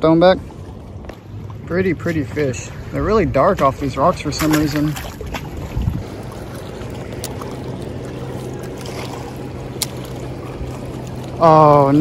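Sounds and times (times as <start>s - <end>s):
lake water lapping: 0.0s - 12.0s
low steady hum: 0.0s - 12.0s
water splashing: 0.0s - 12.0s
wind: 0.0s - 12.0s.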